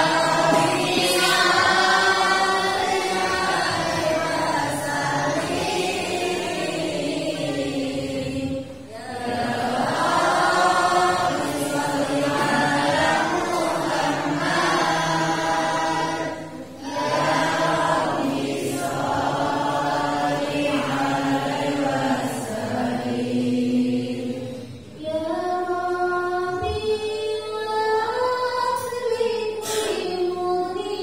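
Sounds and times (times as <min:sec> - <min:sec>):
girls chanting over microphones: 0:00.0 - 0:31.0.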